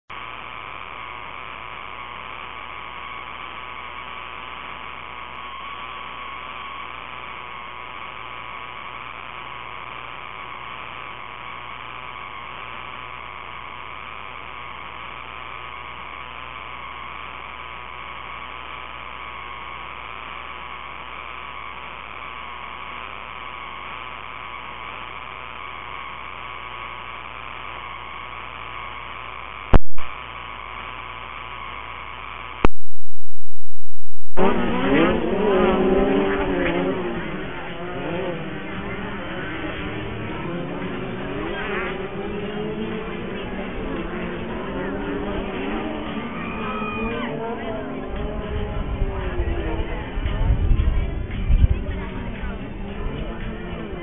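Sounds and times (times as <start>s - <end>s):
electrical hum and hiss: 0.1s - 54.0s
faint wavering whine: 0.1s - 54.0s.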